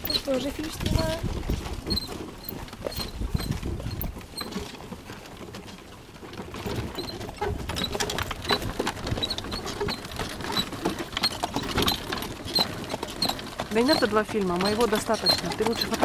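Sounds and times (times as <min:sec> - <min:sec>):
cart rattling: 0:00.0 - 0:16.0
horse hooves clopping: 0:00.0 - 0:16.0.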